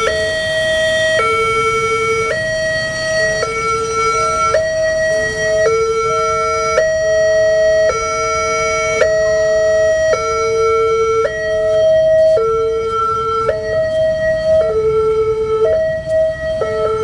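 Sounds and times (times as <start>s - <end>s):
level crossing alarm: 0.0s - 17.0s.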